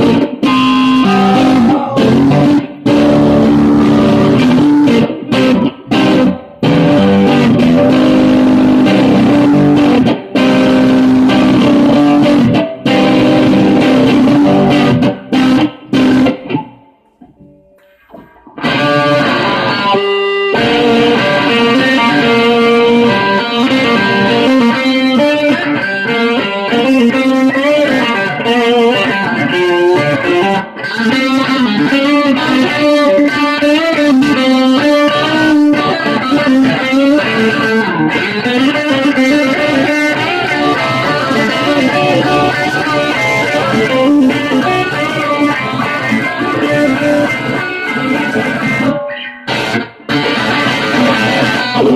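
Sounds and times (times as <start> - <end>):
electric guitar played loudly: 0.0 - 51.9.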